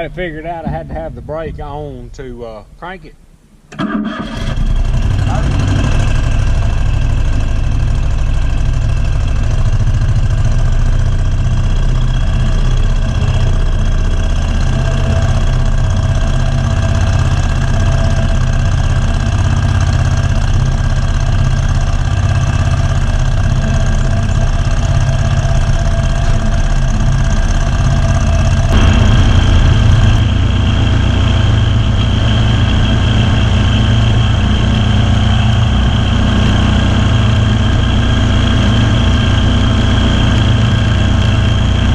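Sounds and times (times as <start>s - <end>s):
mower engine running: 3.7s - 41.9s.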